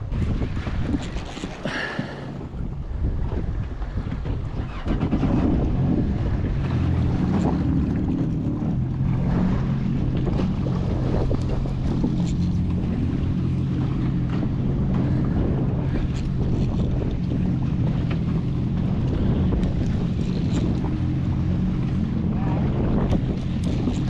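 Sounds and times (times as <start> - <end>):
wind buffeting microphone: 0.0 - 24.0
jet ski engine idling: 1.6 - 24.0.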